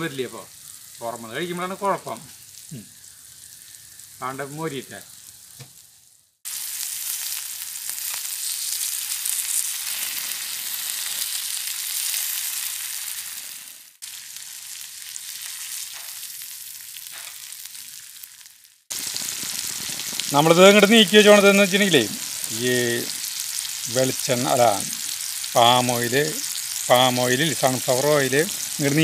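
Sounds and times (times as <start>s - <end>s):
meat sizzling in hot oil: 0.0s - 29.0s.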